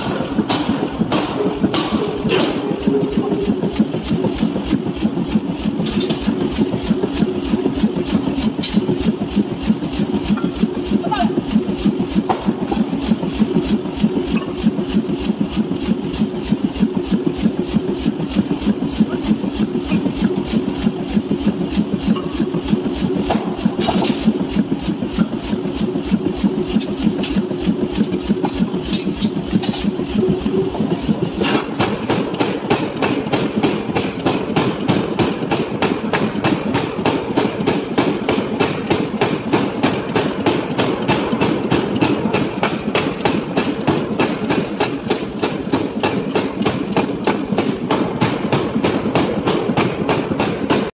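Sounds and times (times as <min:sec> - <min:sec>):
power hammer striking steel: 0:00.0 - 0:15.4, 0:16.6 - 0:50.9
machine running drone: 0:00.0 - 0:50.9.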